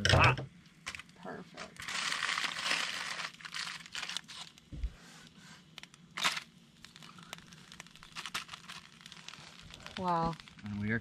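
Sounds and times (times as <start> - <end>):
foil packet sizzling on charcoal: 0.8 - 11.0.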